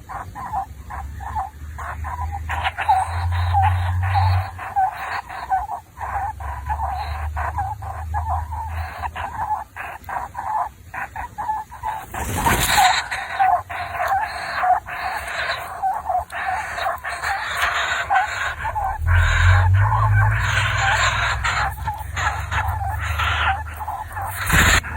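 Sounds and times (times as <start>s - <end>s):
baby birds cheeping: 0.0s - 24.9s.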